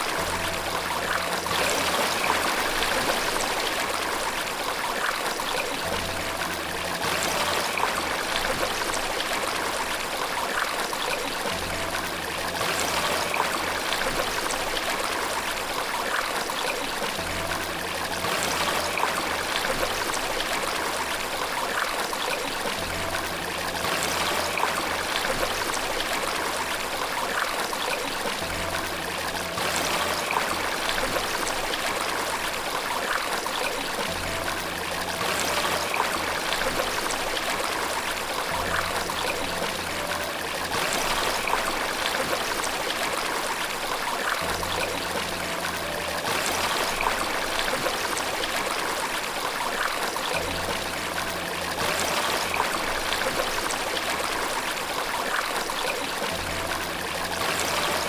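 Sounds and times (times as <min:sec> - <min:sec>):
flowing water rushing: 0:00.0 - 0:58.0
soft relaxation music: 0:00.0 - 0:58.0.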